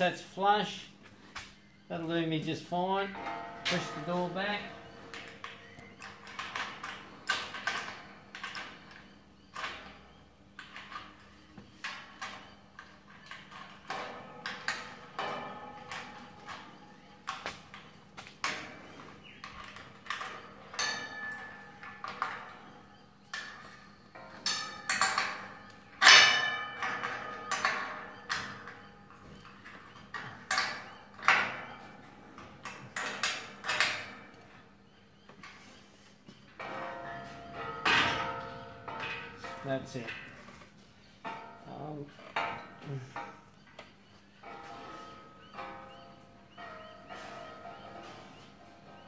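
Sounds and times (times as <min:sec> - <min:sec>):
metal panels clanking: 0:02.3 - 0:49.0.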